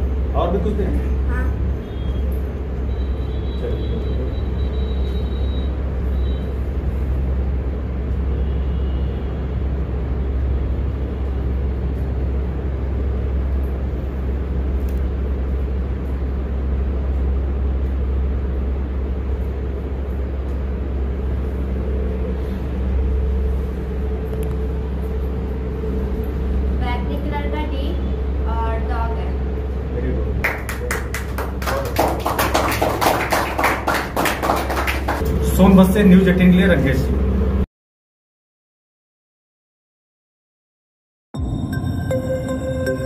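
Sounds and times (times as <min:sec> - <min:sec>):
low rumbling hum: 0:00.0 - 0:37.7, 0:41.4 - 0:43.0.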